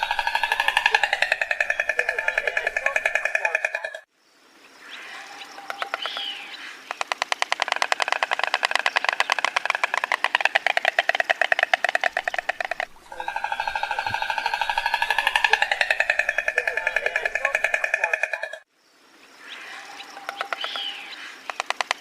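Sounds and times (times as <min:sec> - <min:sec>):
stork clattering its bill: 0:00.0 - 0:04.1, 0:05.6 - 0:18.6, 0:20.2 - 0:22.0.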